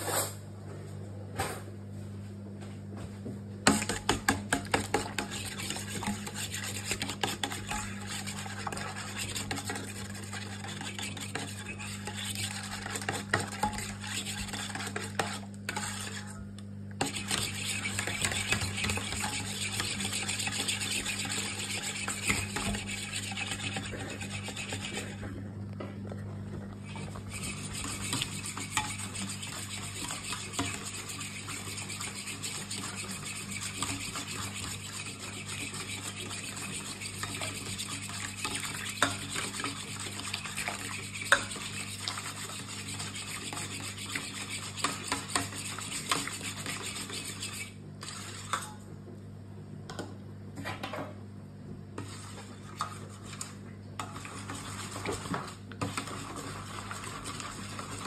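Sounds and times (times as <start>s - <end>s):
metal spoon stirring in bowl: 3.7s - 16.4s, 17.0s - 25.3s, 26.8s - 48.8s, 52.0s - 58.0s.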